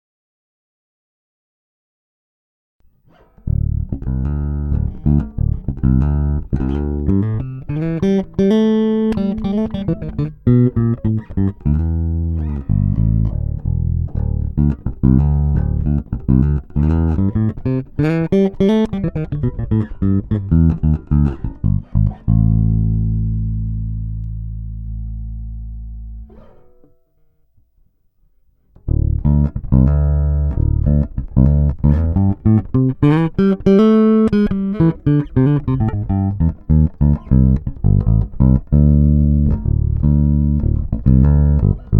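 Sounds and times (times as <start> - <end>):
electric bass playing solo: 3.2 - 27.1, 28.8 - 41.9.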